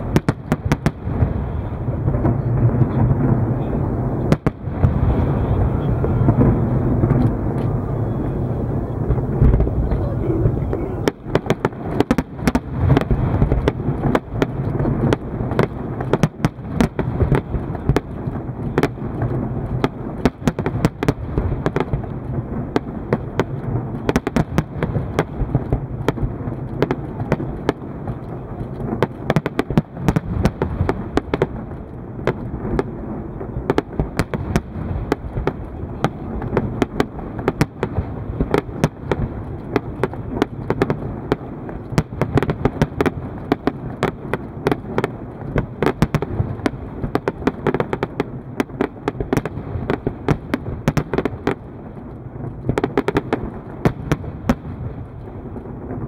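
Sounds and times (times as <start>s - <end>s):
firework shells bursting: 0.0s - 56.0s
low rumble of reports: 0.0s - 56.0s.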